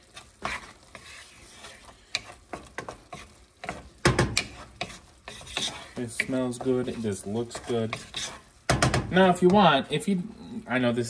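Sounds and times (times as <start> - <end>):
wooden spoon scraping a pan: 0.0 - 10.9.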